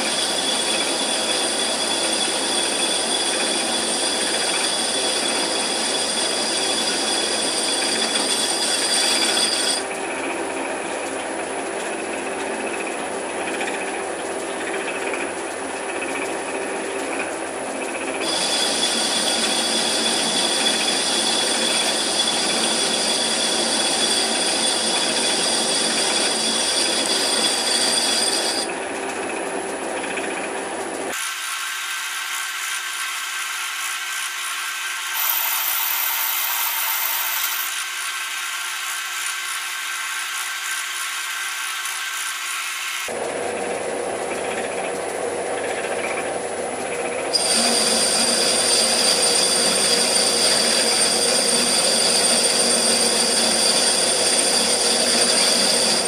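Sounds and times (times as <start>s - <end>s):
lathe running with high whine: 0.0s - 56.0s.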